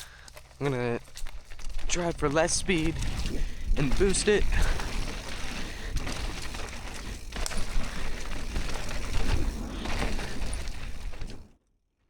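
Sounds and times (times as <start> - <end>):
bike rolling over dirt trail: 0.0 - 11.6.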